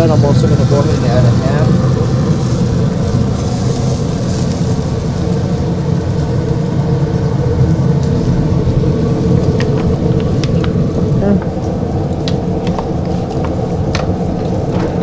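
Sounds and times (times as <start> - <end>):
motor running hum: 0.0 - 15.0.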